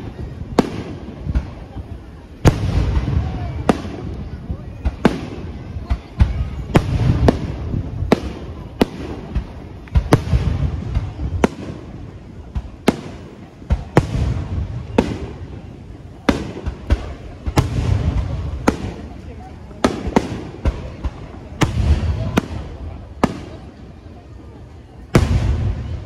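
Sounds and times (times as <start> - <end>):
firework bangs with rolling echo: 0.0 - 26.0.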